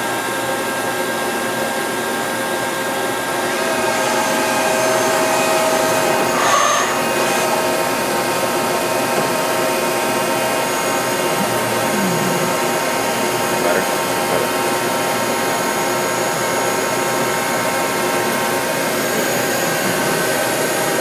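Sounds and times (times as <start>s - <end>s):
milling machine hum and whine: 0.0s - 21.0s.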